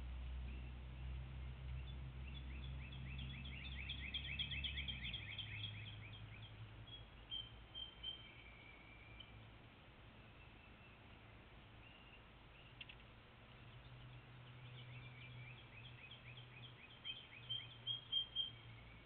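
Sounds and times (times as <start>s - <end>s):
low steady hum: 0.0s - 19.0s
small bird singing: 0.4s - 9.6s, 10.2s - 19.0s.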